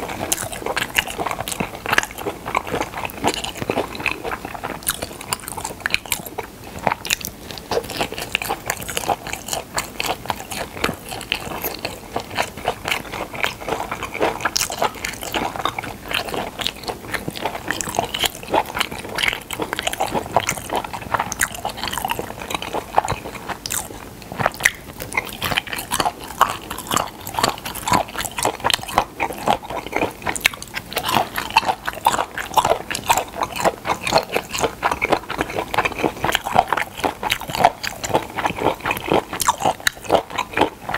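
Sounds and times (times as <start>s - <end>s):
wet crunchy chewing: 0.0s - 40.9s.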